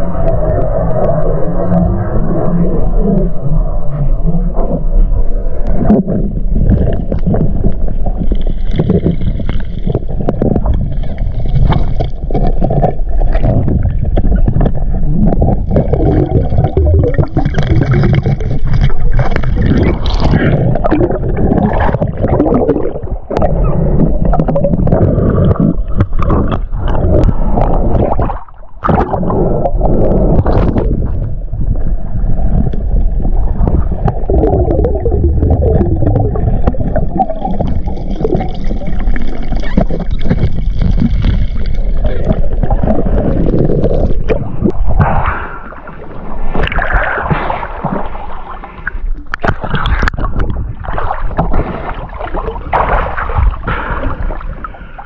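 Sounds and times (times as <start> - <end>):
underwater water rushing and gurgling: 0.0 - 55.0.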